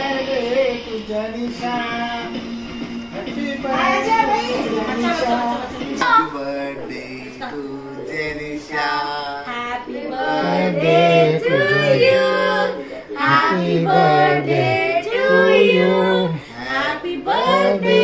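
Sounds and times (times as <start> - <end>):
group singing birthday song: 0.0 - 18.0.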